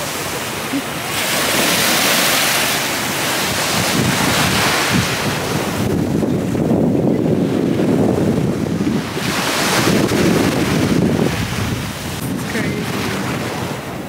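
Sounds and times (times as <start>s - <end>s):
surf washing over sand: 0.0s - 14.0s
wind buffeting microphone: 1.1s - 14.0s.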